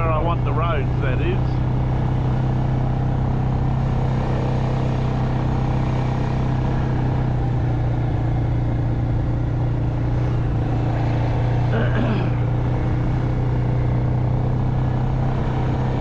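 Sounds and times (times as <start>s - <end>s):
farm vehicle engine droning: 0.0s - 16.0s.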